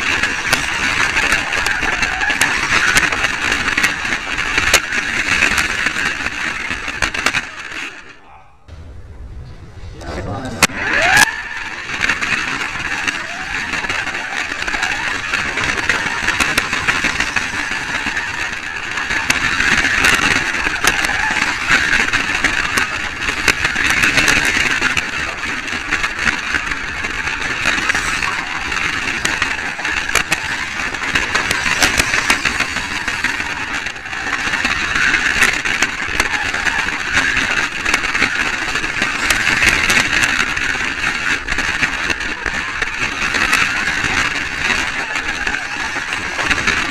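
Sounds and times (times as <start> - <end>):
small clicks and rattles: 0.0 - 8.2, 10.4 - 46.9
small electric motor whining: 0.0 - 8.2, 10.6 - 46.9.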